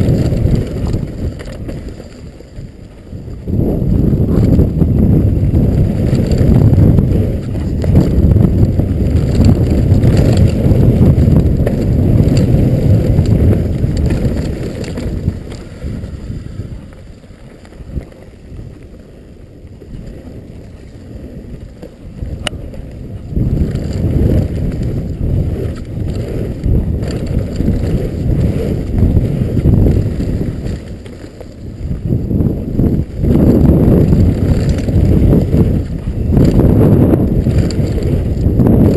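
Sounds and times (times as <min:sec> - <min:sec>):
mountain bike rumbling and rattling: 0:00.0 - 0:38.9
wind buffeting microphone: 0:00.0 - 0:38.9.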